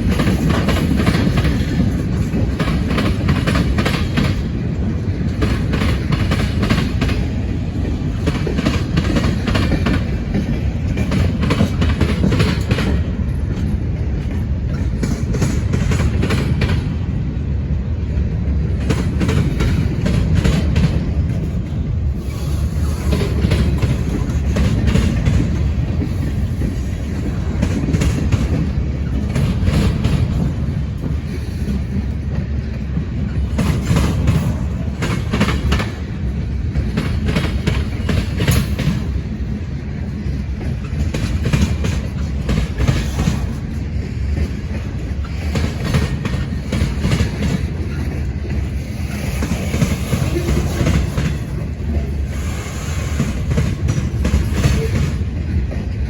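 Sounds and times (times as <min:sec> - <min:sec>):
wheels clacking over rail joints: 0:00.0 - 0:17.2, 0:18.5 - 0:56.0
train wheels rumbling on rail: 0:00.0 - 0:56.0.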